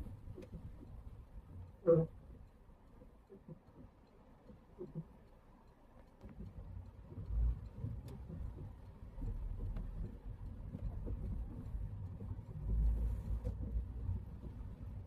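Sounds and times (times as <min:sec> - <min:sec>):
faint ticks: 0:00.0 - 0:15.0
road and engine rumble in car: 0:00.0 - 0:15.0.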